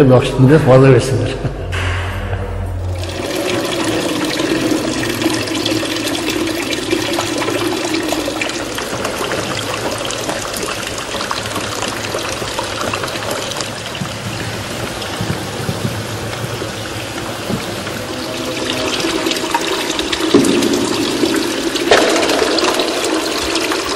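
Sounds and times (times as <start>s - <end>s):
water dripping: 2.8s - 23.9s
water pouring and splashing: 2.8s - 23.9s.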